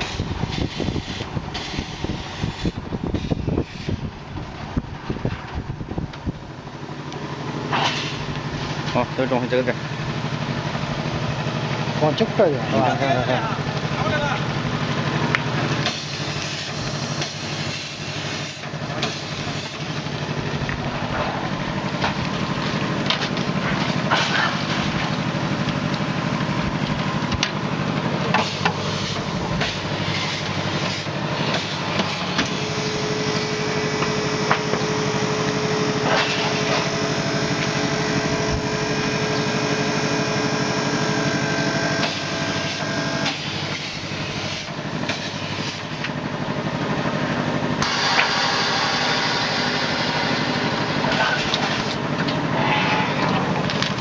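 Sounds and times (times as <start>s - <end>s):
electric machinery humming: 0.0s - 54.0s
vacuum pump whine: 0.0s - 54.0s.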